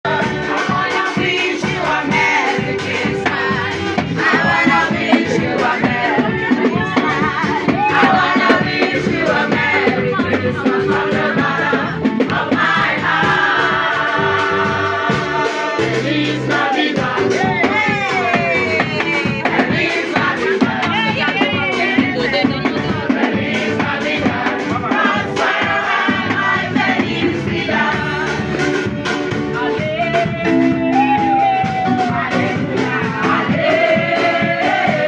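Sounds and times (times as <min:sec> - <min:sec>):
choir singing gospel carol: 0:00.0 - 0:35.0
drum kit: 0:00.0 - 0:35.0
keyboard: 0:00.0 - 0:35.0.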